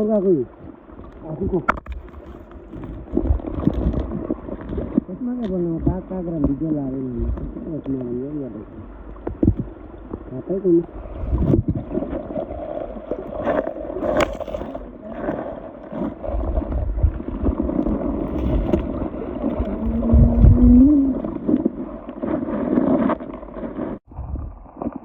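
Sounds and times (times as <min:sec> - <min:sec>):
water against the hull: 0:00.0 - 0:25.0.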